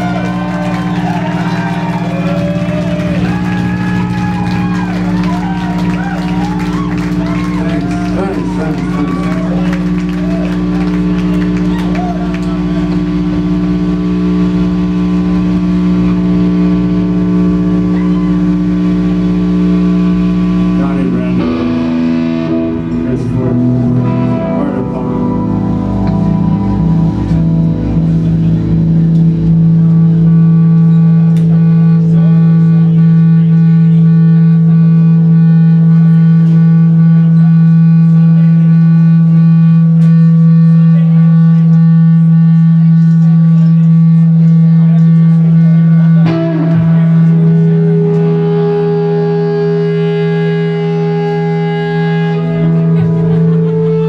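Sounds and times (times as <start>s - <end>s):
electric guitars droning: 0.0s - 54.0s.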